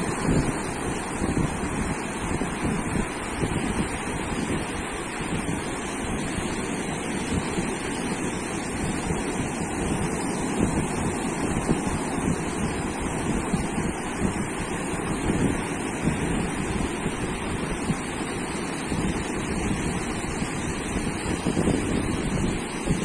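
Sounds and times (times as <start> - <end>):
surf breaking on beach: 0.0 - 23.0
wind rumbling on microphone: 0.0 - 23.0.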